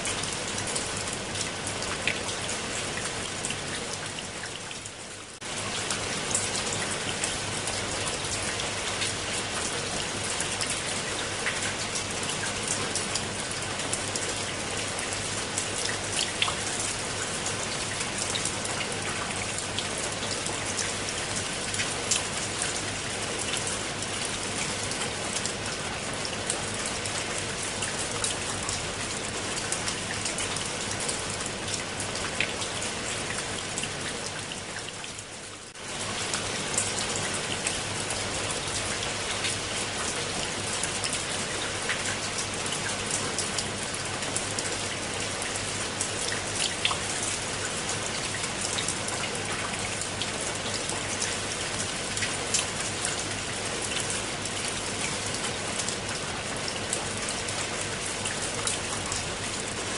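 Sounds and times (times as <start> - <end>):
rain on leaves and concrete: 0.0 - 59.9.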